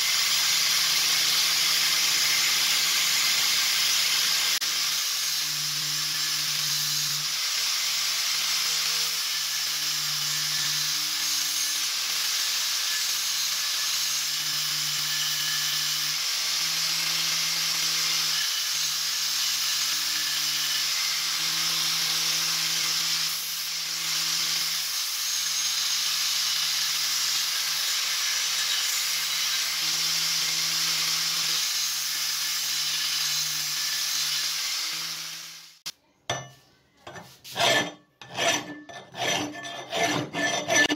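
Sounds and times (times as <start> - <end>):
belt grinder grinding steel: 0.0 - 35.8, 37.1 - 40.9.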